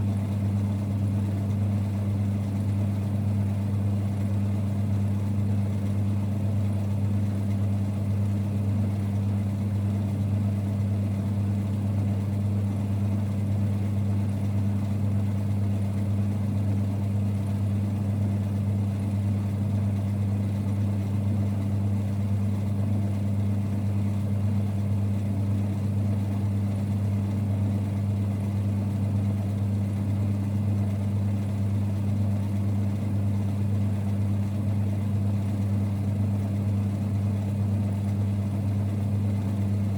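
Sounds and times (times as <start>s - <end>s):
lathe running with low rumble: 0.0s - 39.9s.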